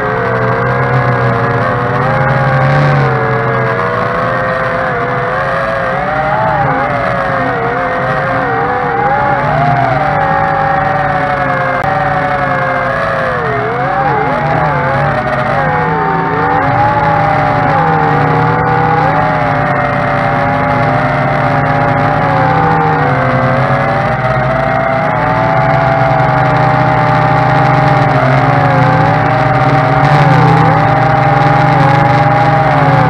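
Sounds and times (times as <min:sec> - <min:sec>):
drone propeller motors whining: 0:00.0 - 0:33.0.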